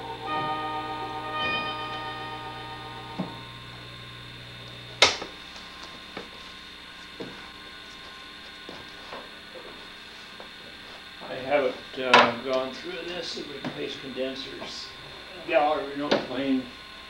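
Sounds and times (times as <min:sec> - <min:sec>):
organ amplifier humming: 0:00.0 - 0:17.0.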